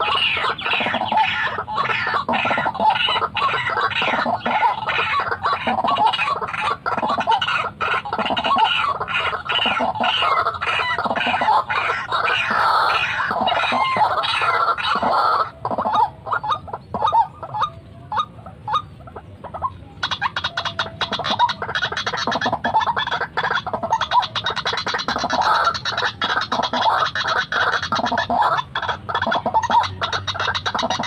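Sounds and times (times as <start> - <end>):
waterhen calling: 0.0 - 31.0.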